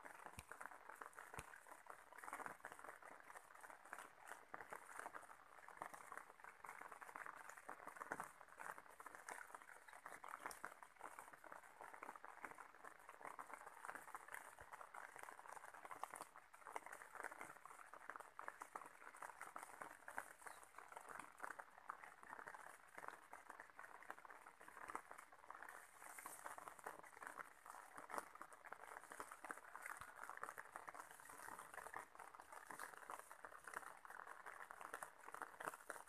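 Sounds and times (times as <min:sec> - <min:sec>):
rain drops pattering on leaves: 0:00.0 - 0:36.0.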